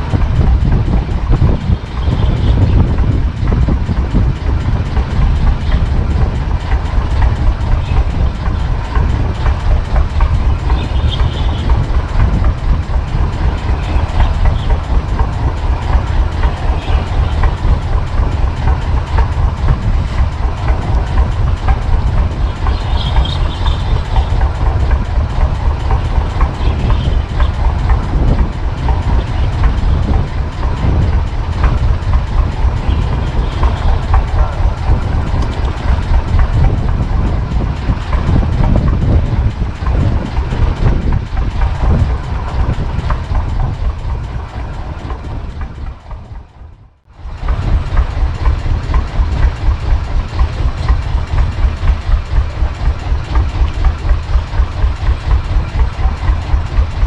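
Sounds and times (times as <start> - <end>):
boat engine pulsing: 0.0 - 57.0.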